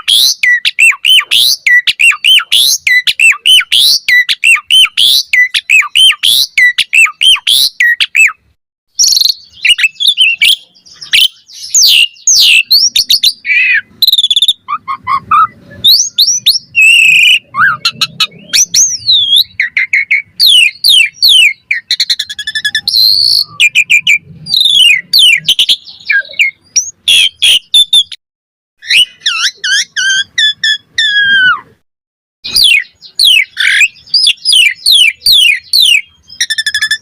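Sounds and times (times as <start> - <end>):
starling singing: 0.0 - 28.2, 28.8 - 31.8, 32.4 - 37.0.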